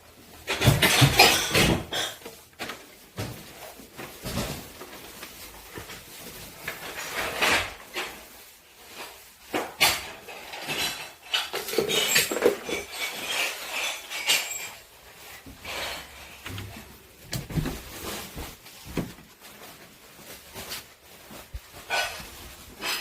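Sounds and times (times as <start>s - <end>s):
household items clattering: 0.0s - 23.0s.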